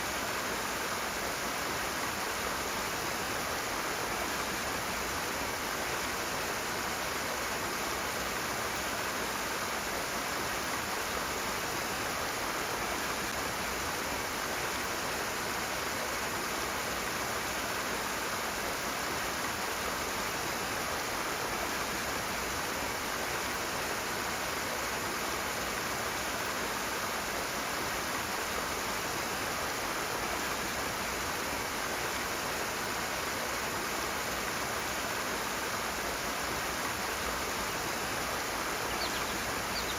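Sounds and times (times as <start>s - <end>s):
fast-flowing stream rushing: 0.0s - 39.9s.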